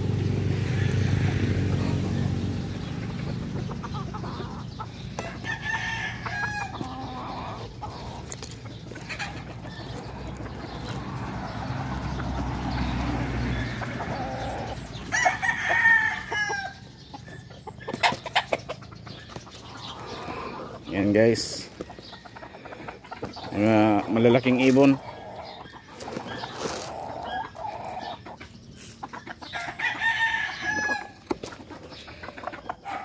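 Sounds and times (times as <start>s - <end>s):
roosters crowing: 0.0s - 33.0s.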